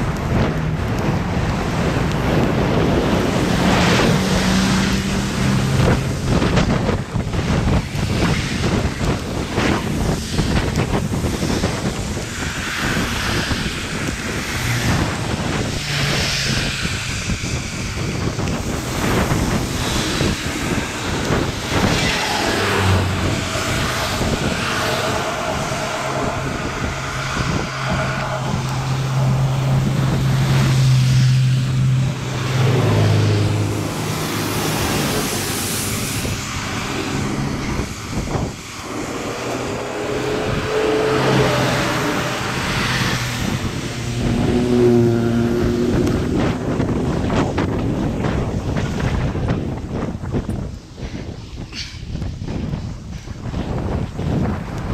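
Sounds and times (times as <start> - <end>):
low engine hum: 0.0 - 50.7
tyres hissing on wet road: 0.0 - 54.9
wind buffeting microphone: 0.0 - 54.9.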